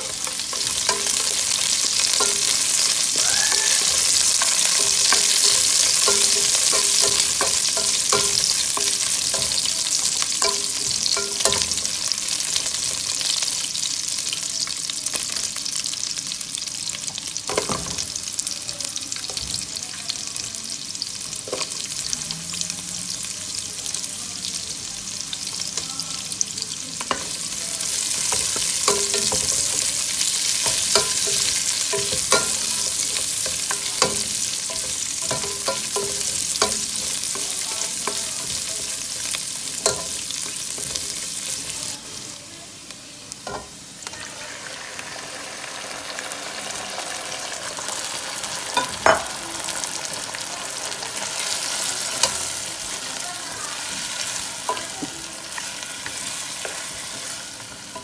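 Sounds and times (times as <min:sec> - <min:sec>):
food sizzling in oil: 0:00.0 - 0:58.0.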